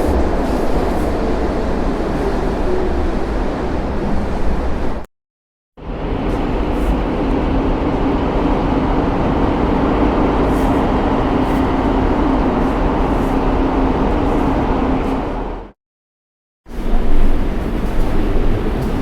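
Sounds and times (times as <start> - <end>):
subway train rumble: 0.0 - 5.1, 5.8 - 15.8, 16.7 - 19.0.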